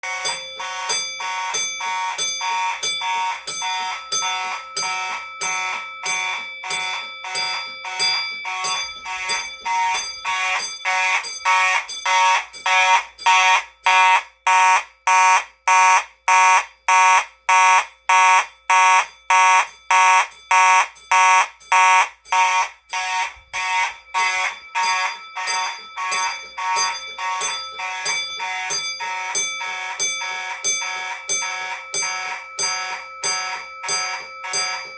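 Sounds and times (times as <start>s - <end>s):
fire alarm pulsing: 0.0s - 34.9s.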